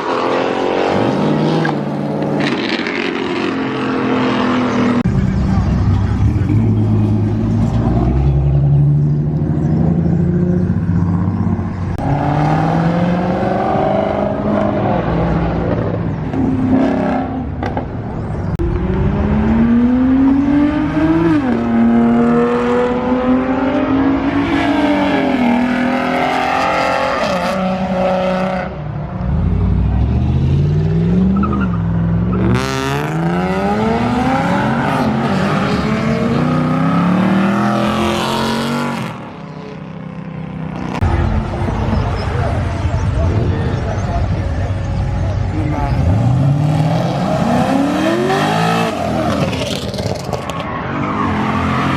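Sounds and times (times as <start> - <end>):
car engines revving and accelerating: 0.0 - 51.9.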